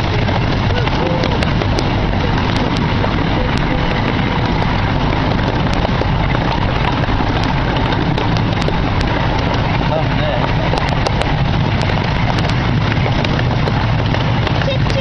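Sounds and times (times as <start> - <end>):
miniature train rumble: 0.0 - 15.0
running gear clicks and clacks: 0.0 - 15.0.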